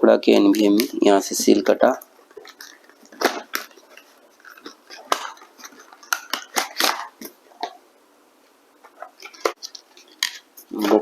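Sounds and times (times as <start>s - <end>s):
packaging crinkling and clicking: 0.5s - 7.8s, 8.8s - 11.0s.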